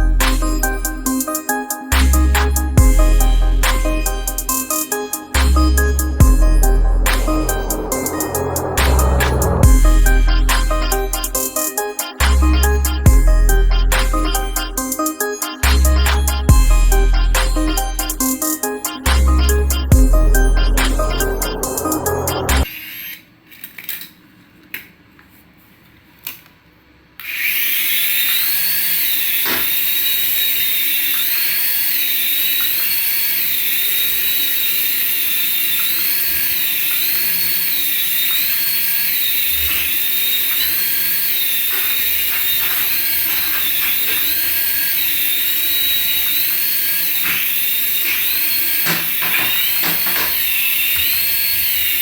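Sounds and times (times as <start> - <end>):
toy electric motor whining: 0.0 - 23.7, 27.2 - 52.0.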